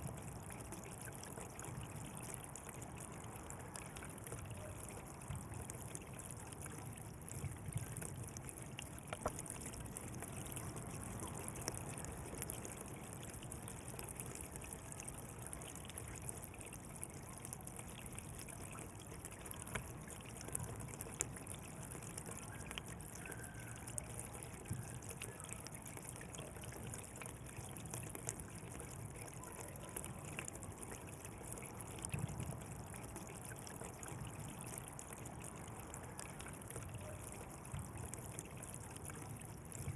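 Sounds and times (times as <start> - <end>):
water splashes and drips: 0.0 - 39.9
water trickling along a channel: 0.0 - 39.9.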